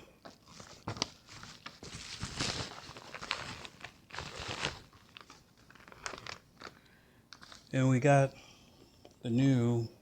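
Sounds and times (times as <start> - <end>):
packaging rustling and crinkling: 0.2 - 8.2.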